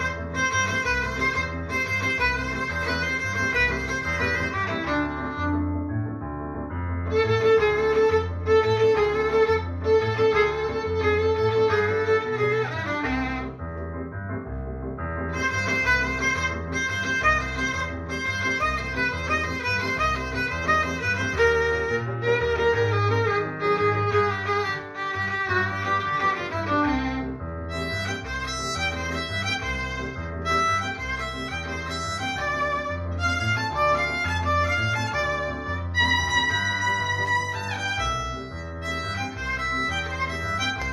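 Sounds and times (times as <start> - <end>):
violin melody: 0.0 - 14.1, 15.1 - 40.9
low accompaniment: 0.0 - 40.9.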